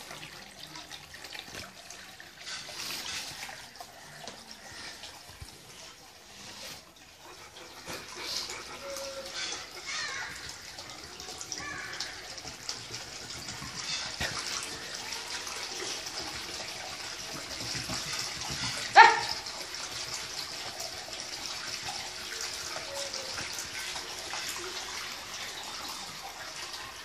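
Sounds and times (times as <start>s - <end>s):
water pump bubbling and splashing: 0.0s - 27.0s.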